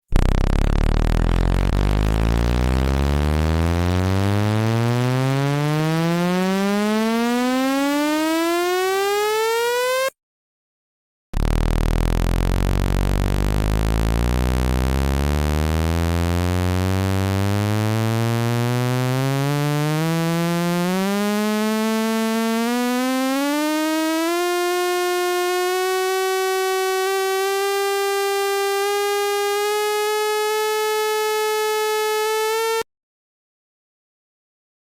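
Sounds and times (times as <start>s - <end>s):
buzzy rising siren-like tone: 0.1s - 10.1s, 11.4s - 32.9s.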